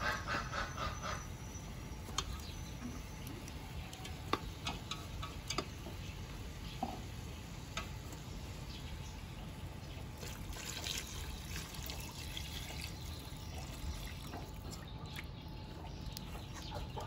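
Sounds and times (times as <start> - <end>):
soft sizzle and bubbling: 1.2 - 17.0.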